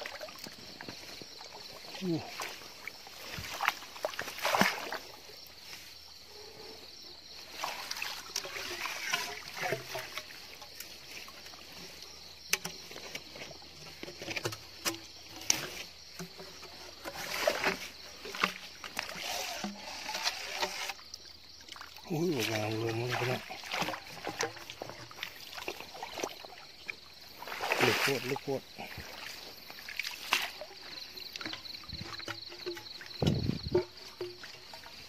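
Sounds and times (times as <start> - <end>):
water sloshing and splashing: 0.0 - 35.0.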